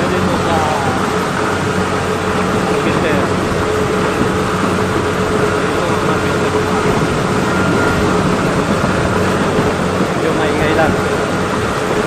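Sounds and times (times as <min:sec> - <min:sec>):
harvester engine running: 0:00.0 - 0:12.0.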